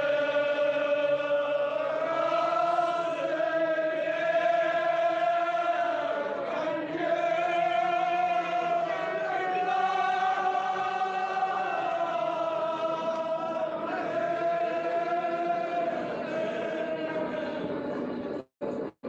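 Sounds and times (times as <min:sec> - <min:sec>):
men chanting long notes: 0:00.0 - 0:17.8.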